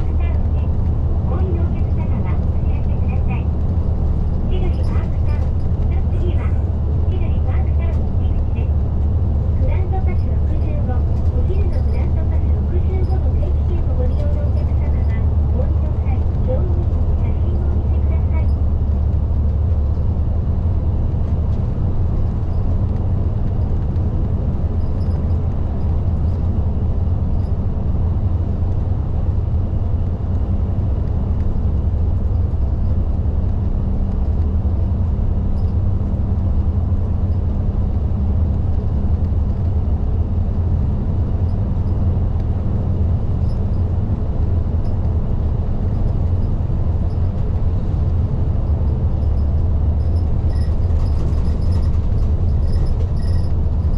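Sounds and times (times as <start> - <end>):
bus engine and road noise drone: 0.0 - 53.9.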